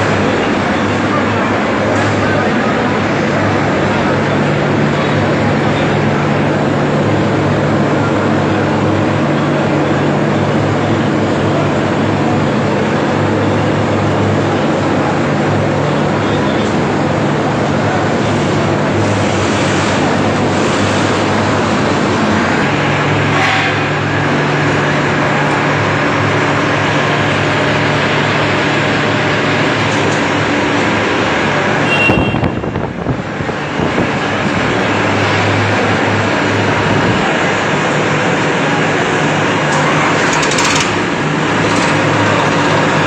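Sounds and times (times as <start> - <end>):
crowd noise: 0.0 - 43.0
tractor diesel engine running: 0.0 - 43.0.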